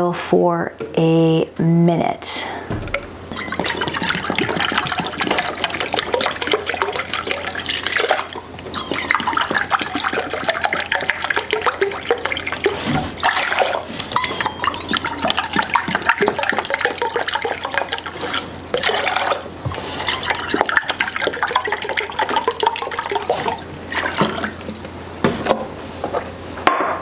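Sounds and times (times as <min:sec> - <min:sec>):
liquid running and bubbling: 0:02.8 - 0:25.6.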